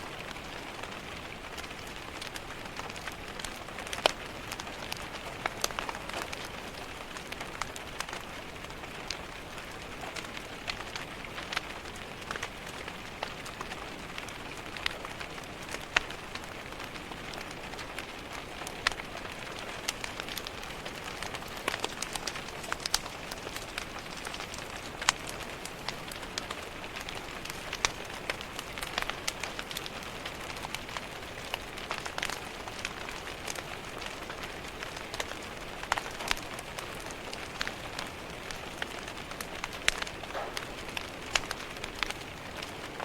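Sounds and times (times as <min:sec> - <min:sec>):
rain on a window: 0:00.0 - 0:43.0
wood fire crackling: 0:00.0 - 0:43.0.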